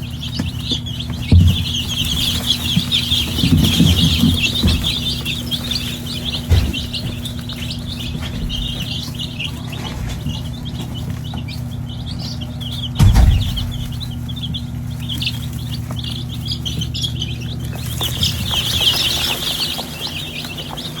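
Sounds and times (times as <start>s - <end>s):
chicks peeping: 0.0s - 21.0s
dull bumps: 0.0s - 21.0s
steady low hum: 0.0s - 21.0s.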